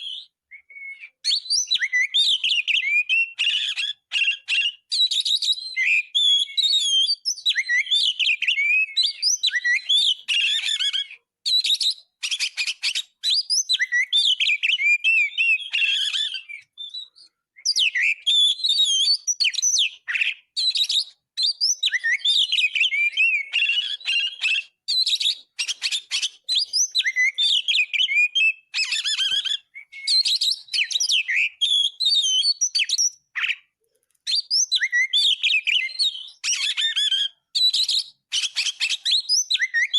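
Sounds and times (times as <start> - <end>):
bird singing whistles and trills: 0.0 - 33.7, 34.3 - 39.9.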